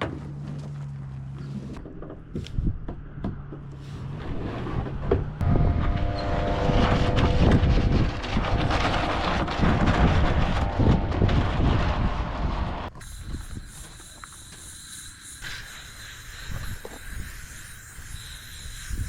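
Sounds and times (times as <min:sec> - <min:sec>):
motor vehicle running: 0:00.0 - 0:18.9
rough engine rumble: 0:00.0 - 0:19.0.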